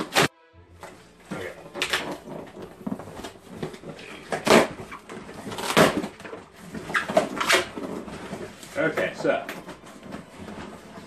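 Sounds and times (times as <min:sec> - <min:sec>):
cardboard ripping: 0:00.0 - 0:00.3, 0:01.3 - 0:11.0
cardboard and plastic rustling: 0:00.0 - 0:11.0.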